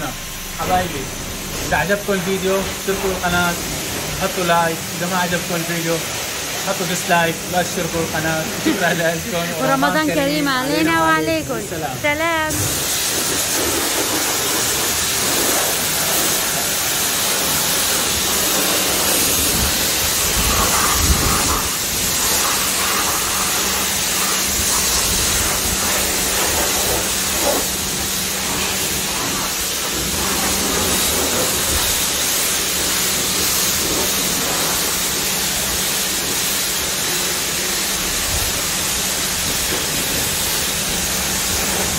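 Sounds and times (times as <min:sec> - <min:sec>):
pressure washer jet hissing: 0:00.0 - 0:41.9.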